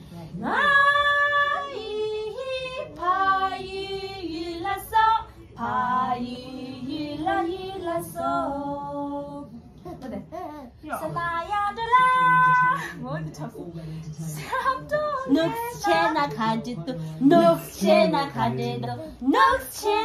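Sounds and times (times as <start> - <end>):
women singing together: 0.0 - 20.0.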